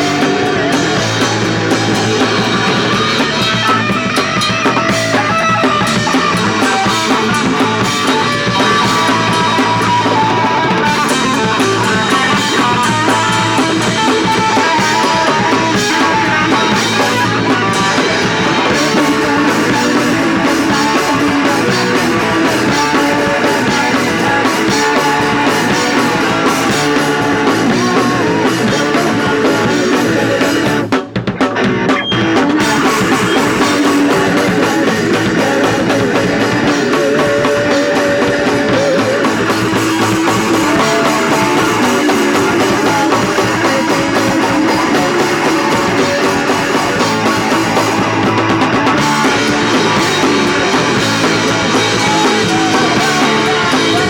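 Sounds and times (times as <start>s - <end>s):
drum kit pounding: 0.0s - 54.0s
loud electric guitars: 0.0s - 54.0s.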